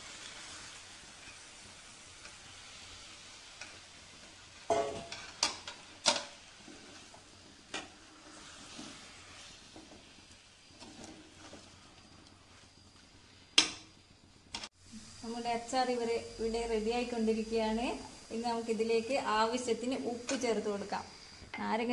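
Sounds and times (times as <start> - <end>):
faint sizzle from pot: 0.0 - 21.9.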